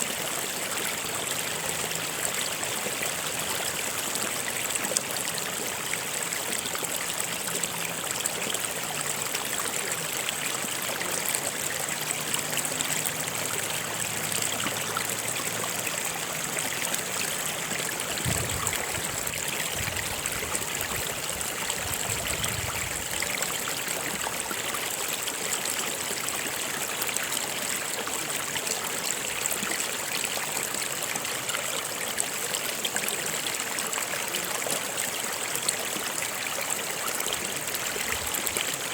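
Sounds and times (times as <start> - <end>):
stream water running over rocks: 0.0 - 38.9.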